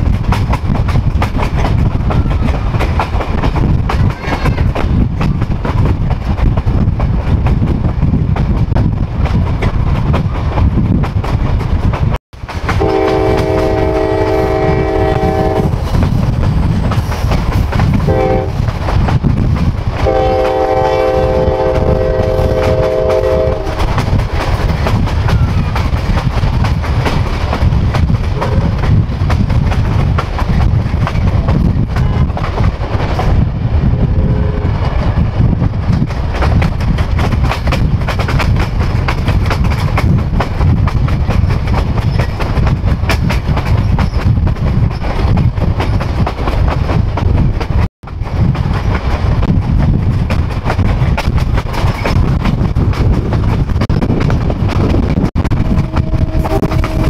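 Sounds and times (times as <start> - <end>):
train rumble with clickety-clack: 0.0 - 57.0.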